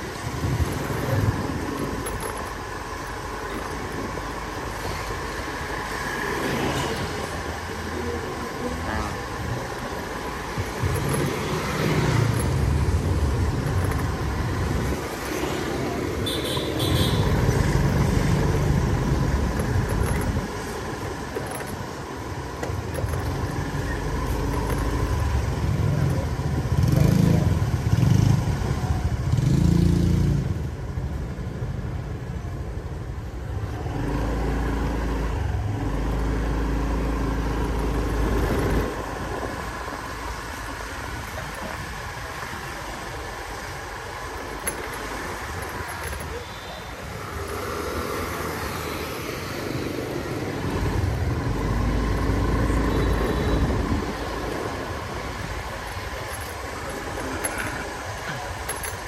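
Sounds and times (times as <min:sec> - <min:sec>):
passing motorbikes and cars: 0:00.0 - 0:59.0
road and wind rumble: 0:00.0 - 0:59.0.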